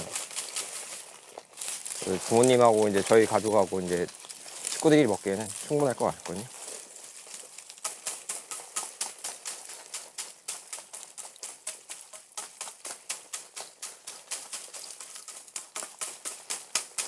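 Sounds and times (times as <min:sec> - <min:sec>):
metal rod tapping dried stalks: 0:00.0 - 0:17.0.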